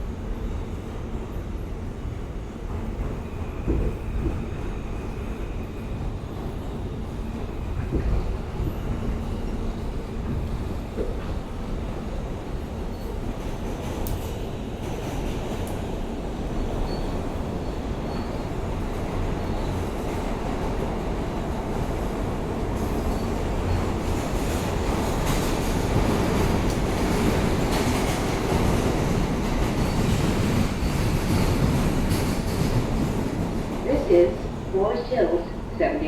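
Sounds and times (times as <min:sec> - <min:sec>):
subway car rumble and rail noise: 0:00.0 - 0:36.0.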